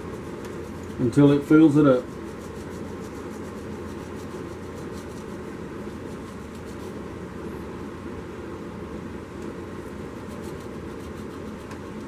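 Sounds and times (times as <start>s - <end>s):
workshop machinery humming: 0.0s - 12.0s.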